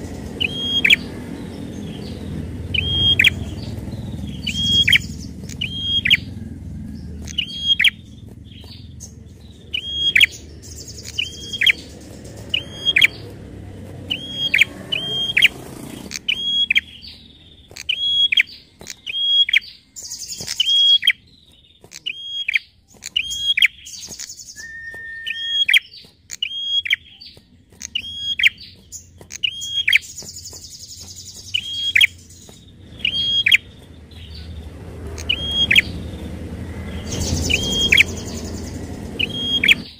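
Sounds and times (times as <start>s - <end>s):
bird buzzy trill: 0.0s - 6.5s, 7.2s - 21.2s, 27.8s - 39.9s
bird sharp falling calls: 0.0s - 39.9s.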